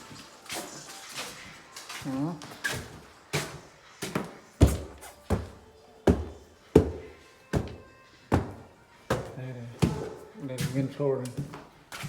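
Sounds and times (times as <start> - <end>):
footsteps on hard floor: 0.0 - 12.0.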